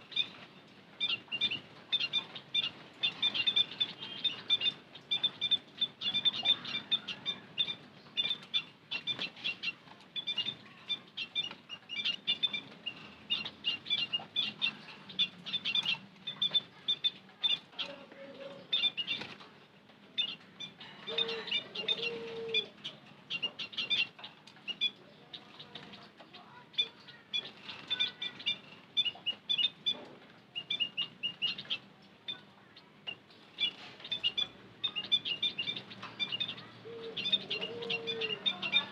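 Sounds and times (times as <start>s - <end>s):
munias chirping: 0.0s - 18.0s, 20.1s - 38.9s.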